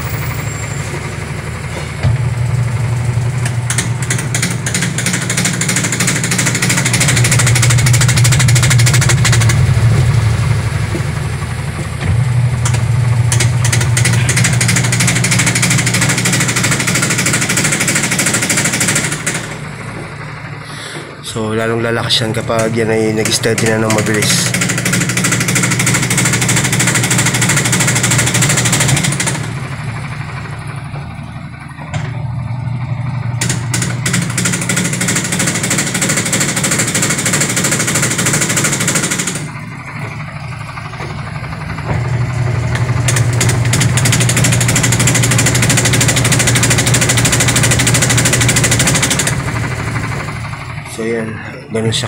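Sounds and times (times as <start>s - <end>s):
washing machine motor hum: 0.0s - 52.0s.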